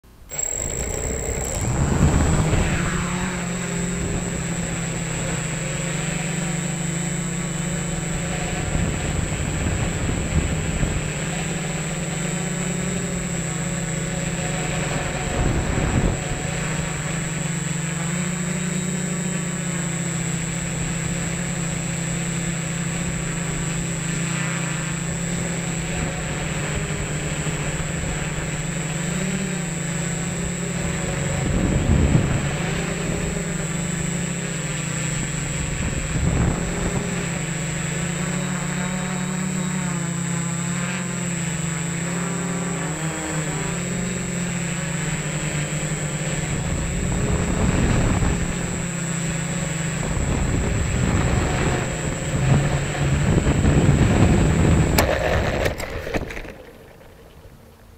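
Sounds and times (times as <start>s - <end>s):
drone motors buzzing: 0.0s - 57.9s
high whine: 0.0s - 57.9s.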